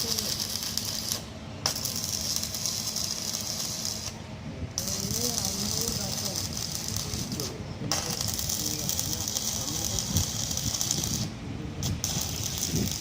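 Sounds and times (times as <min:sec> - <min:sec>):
arc welding crackling hiss: 0:00.0 - 0:13.0.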